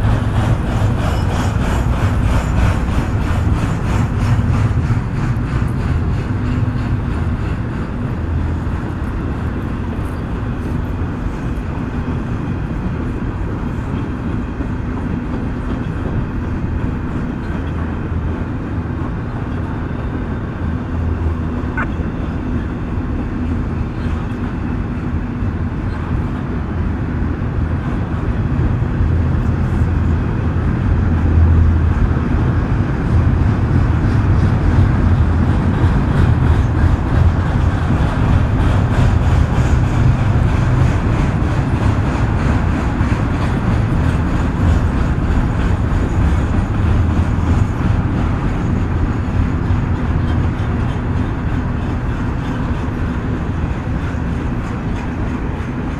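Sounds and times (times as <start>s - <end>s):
freight train rumbling past: 0.0s - 55.9s.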